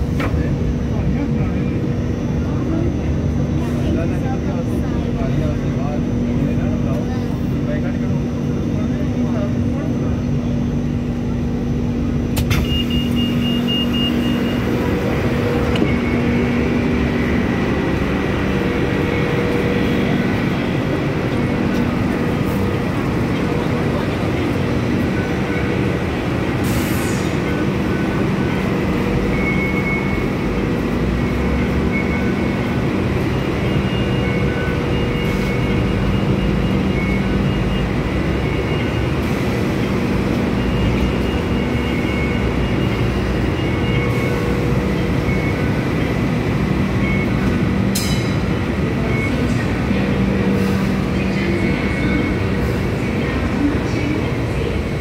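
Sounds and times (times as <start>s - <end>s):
tram rolling on track: 0.0s - 55.0s.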